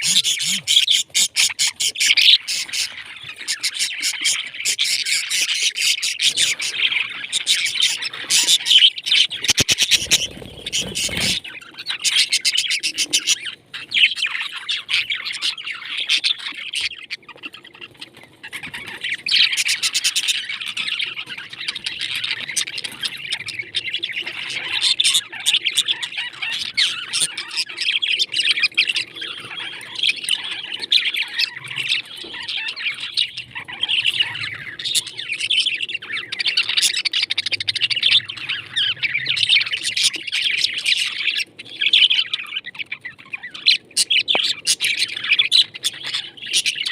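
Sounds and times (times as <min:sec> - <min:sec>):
parrots chirping and chattering: 0:00.0 - 0:46.9.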